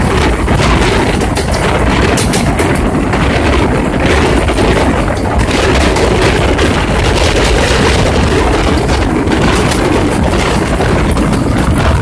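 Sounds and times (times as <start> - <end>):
low buffeting thumps: 0.0 - 12.0
wind buffeting microphone: 0.0 - 12.0.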